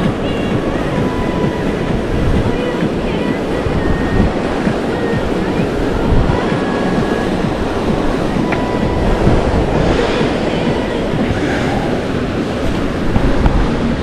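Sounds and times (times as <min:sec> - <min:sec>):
surf breaking against rocks: 0:00.0 - 0:14.0
wind on microphone: 0:00.0 - 0:14.0.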